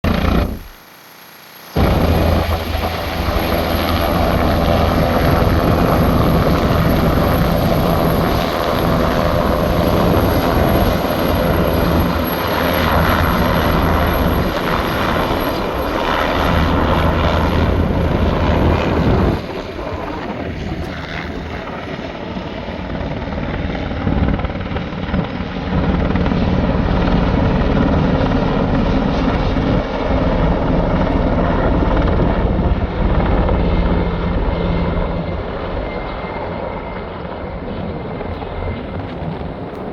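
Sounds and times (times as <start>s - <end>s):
helicopter rotor and engine hum: 0.0s - 39.9s.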